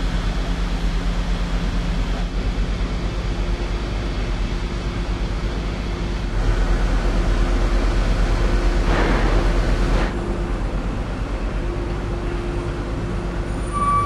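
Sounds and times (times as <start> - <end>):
ferry machinery rumble: 0.0 - 14.0.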